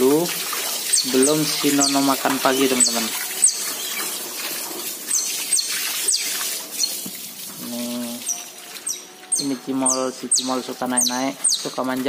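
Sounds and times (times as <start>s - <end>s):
hose water spraying on floor: 0.0s - 12.0s.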